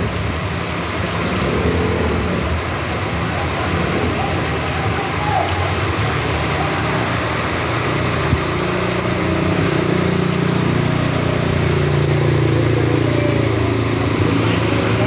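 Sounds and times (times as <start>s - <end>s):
heavy rain hiss: 0.0s - 15.0s
vehicle engine running: 0.0s - 15.0s.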